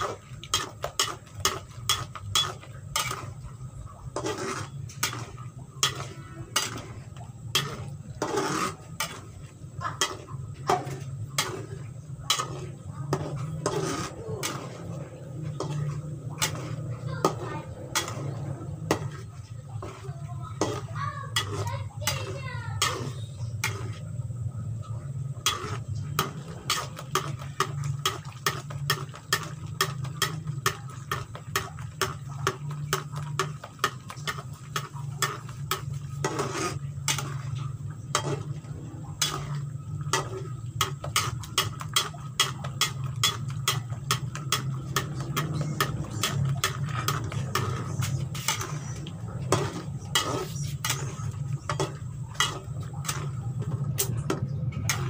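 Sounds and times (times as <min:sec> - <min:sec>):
metal spatula scraping pan: 0:00.0 - 0:55.0.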